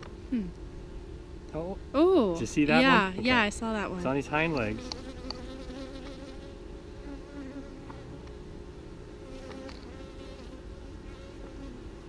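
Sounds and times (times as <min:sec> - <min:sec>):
bees buzzing: 0:02.0 - 0:12.0.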